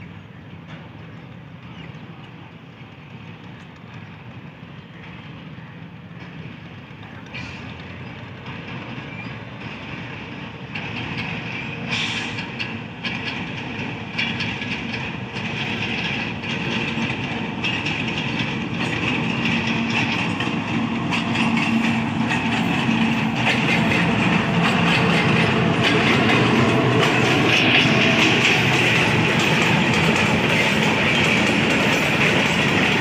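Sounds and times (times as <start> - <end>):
diesel locomotive engine running: 0.0 - 33.0
wheels clicking over rail joints: 0.1 - 5.4, 6.0 - 33.0.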